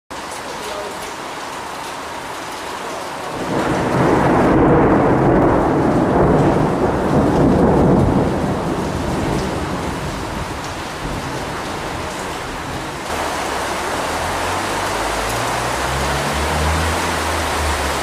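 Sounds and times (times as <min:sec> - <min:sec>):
steady rain: 0:00.1 - 0:18.0
long roll of thunder: 0:03.3 - 0:18.0.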